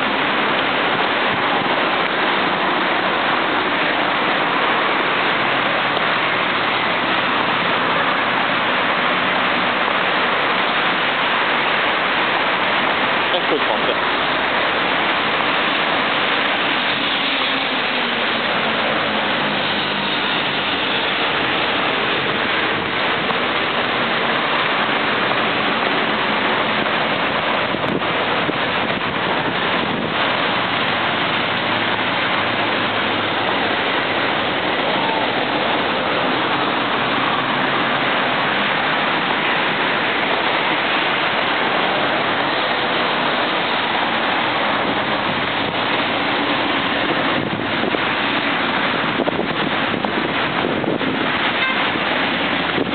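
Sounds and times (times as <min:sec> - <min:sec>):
dense expressway traffic: 0:00.0 - 0:52.9.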